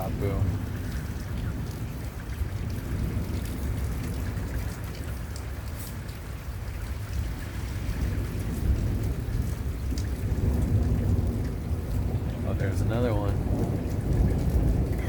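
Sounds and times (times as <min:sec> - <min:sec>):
heavy rain falling: 0:00.0 - 0:15.0
low thunder rumble: 0:00.0 - 0:15.0.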